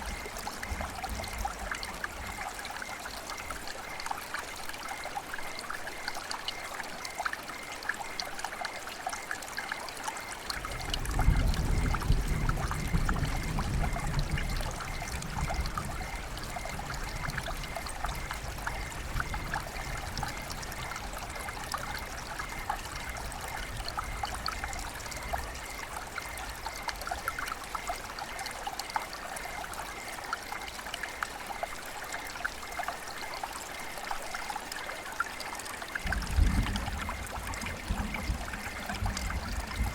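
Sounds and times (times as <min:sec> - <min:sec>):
river water flowing: 0:00.0 - 0:12.6, 0:13.4 - 0:39.9
small splashes and bubbles: 0:00.0 - 0:39.9.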